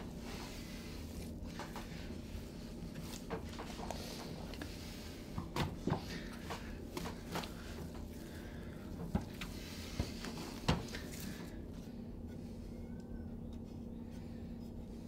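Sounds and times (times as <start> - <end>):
dough kneaded by hand: 0.0 - 15.0
steady low hum: 0.0 - 15.0.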